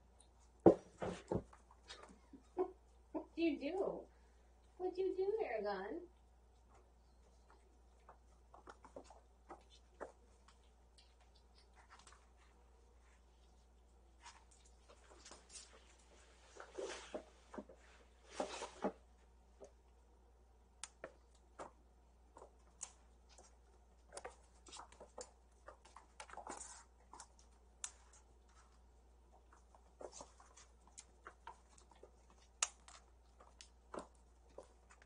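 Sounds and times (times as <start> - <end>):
kittens pattering and scuffling: 0.0 - 4.8, 6.1 - 35.0.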